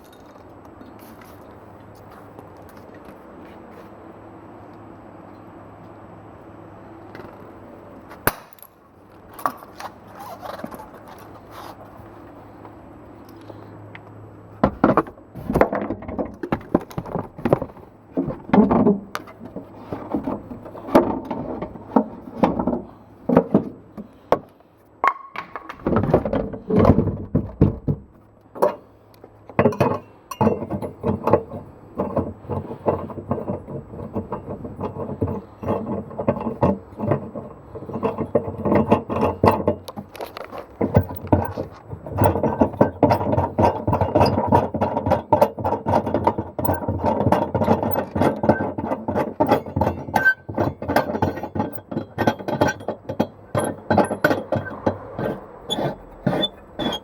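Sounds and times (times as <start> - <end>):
knocks and clatter of tyre work: 7.1 - 57.0.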